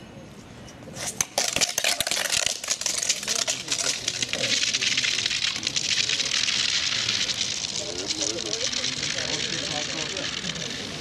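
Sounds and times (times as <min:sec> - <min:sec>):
ice stock sliding on ice: 0:01.0 - 0:11.0.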